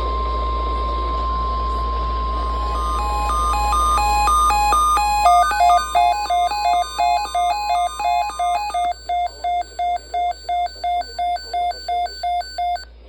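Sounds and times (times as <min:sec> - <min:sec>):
steady warning alarm tone: 0:00.0 - 0:12.8
rapid electronic alert beeping: 0:02.3 - 0:12.8.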